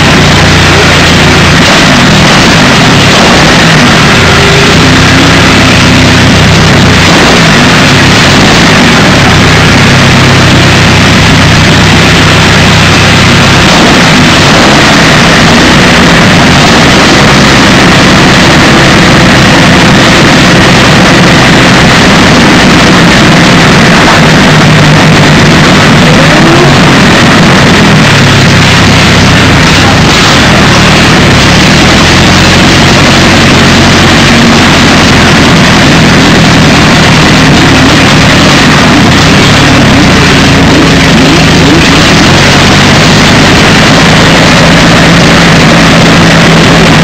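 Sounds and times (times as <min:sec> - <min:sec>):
aero engine revving: 0:00.0 - 0:47.0.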